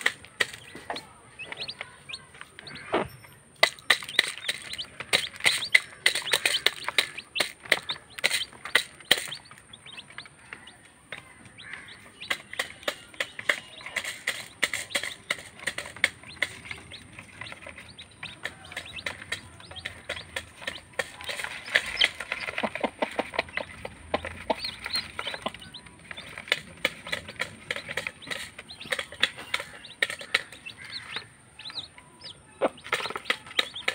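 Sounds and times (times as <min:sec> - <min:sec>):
chicks peeping: 0:00.0 - 0:33.9
pecking taps on plastic: 0:03.6 - 0:33.9.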